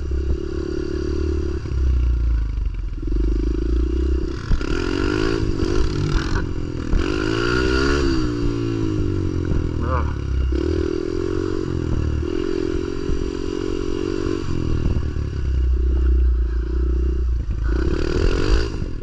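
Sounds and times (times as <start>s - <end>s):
pit bike engine revving: 0.0s - 19.0s.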